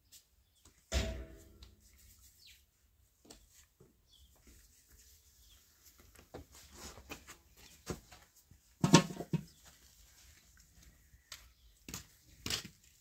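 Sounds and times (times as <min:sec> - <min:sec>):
hands working bread dough: 0:00.0 - 0:13.0.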